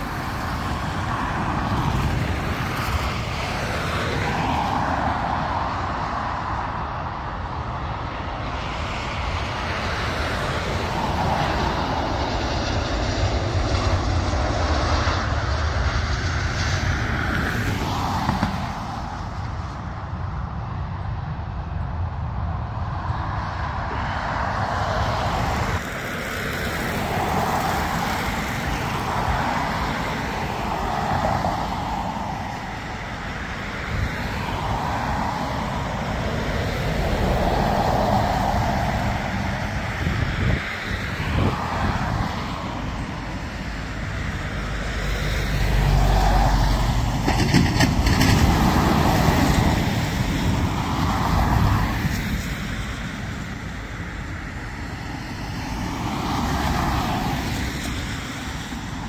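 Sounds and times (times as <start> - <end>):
engine and traffic rumble: 0.0 - 59.0.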